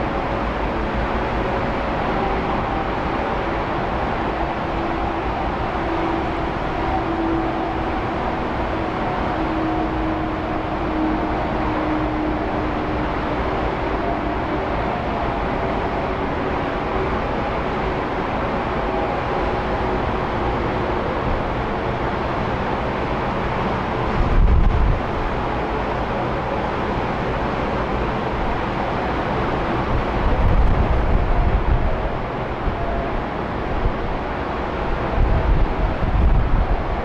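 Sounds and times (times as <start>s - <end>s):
wind buffeting microphone: 0.0s - 26.5s, 28.4s - 37.0s
jet airliner engine rush: 0.0s - 37.0s.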